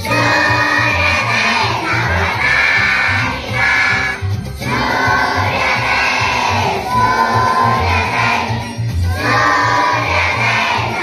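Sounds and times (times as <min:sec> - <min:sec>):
children singing in unison: 0:00.0 - 0:11.0.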